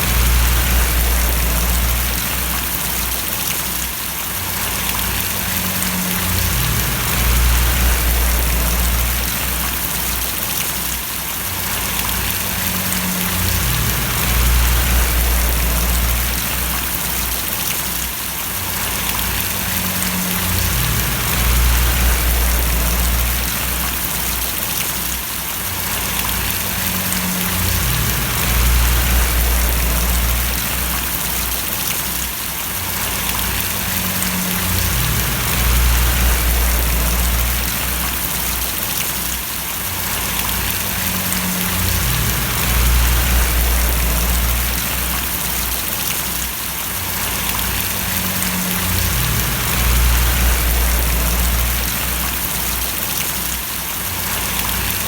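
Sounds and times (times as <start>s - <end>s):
low rumble: 0.0s - 3.4s, 4.6s - 10.3s, 11.7s - 17.6s, 18.8s - 24.5s, 26.0s - 31.9s, 33.0s - 38.8s, 40.2s - 46.2s, 47.1s - 53.0s
steady rain: 0.0s - 55.0s.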